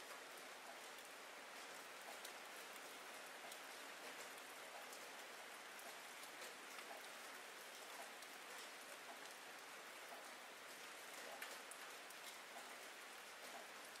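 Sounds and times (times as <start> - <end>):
steady rain hiss: 0.0 - 14.0
raindrop ticks: 0.1 - 14.0.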